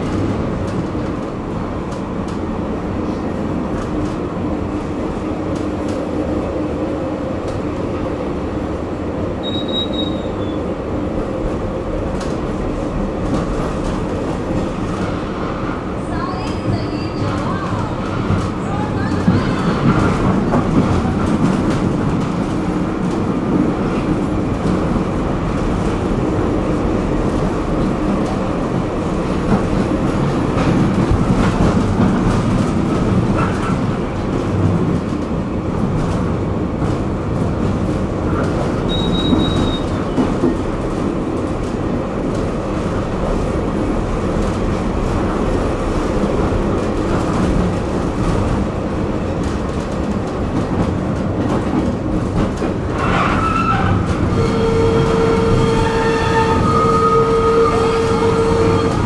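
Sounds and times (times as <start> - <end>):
tram wheels rumbling on rail: 0.0 - 59.0.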